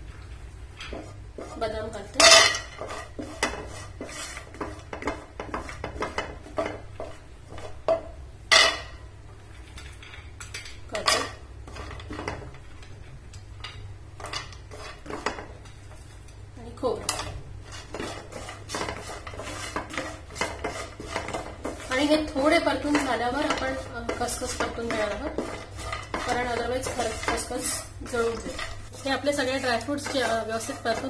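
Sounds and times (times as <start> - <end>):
wooden spatula stirring: 0.0 - 31.0.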